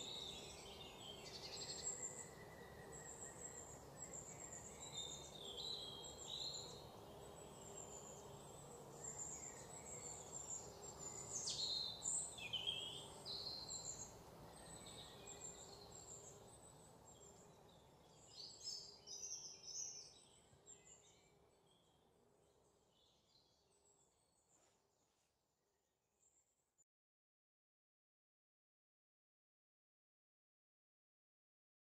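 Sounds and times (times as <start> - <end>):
faint outdoor background noise: 0.0 - 26.8.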